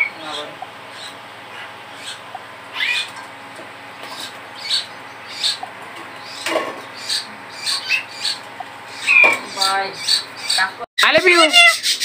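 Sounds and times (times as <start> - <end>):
parakeet chirps and squawks: 0.0 - 3.2, 4.0 - 5.6, 6.2 - 12.0.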